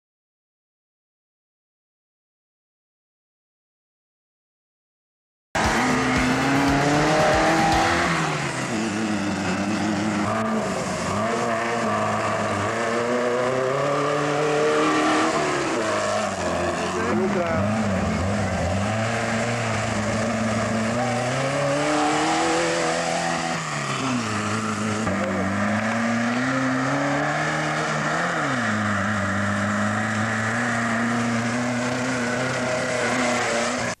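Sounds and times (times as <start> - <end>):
dune buggy engine at full throttle: 5.6 - 34.0.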